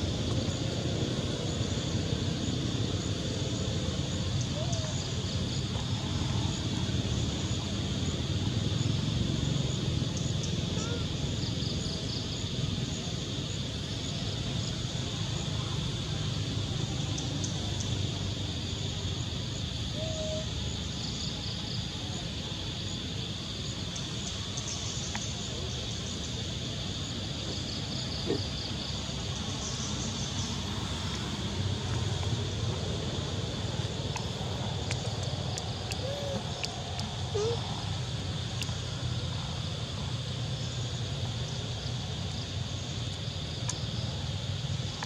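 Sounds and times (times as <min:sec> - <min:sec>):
constant high hum: 0:00.0 - 0:45.0.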